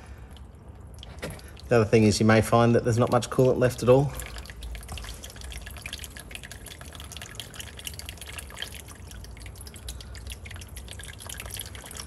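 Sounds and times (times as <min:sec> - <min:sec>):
coolant dripping into plastic pans: 0:00.0 - 0:12.0.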